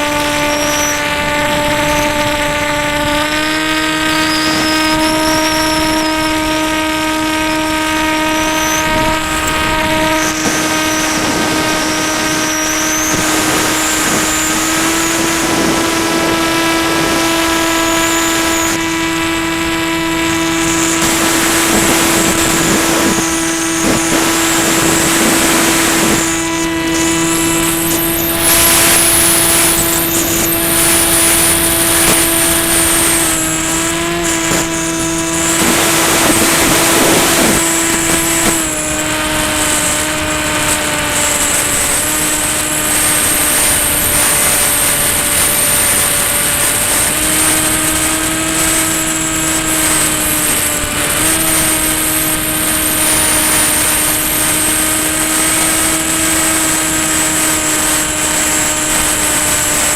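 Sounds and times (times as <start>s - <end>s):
model plane motor droning: 0.0s - 59.9s
wind rush on microphone: 0.0s - 59.9s.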